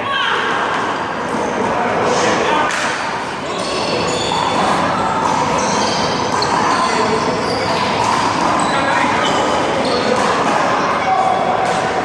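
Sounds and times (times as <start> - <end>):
indistinct chatter of people: 0.0 - 12.0.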